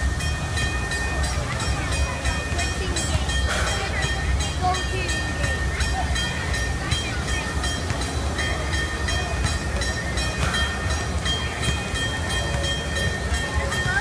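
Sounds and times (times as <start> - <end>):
steam locomotive exhaust chuffs: 0.0 - 14.0.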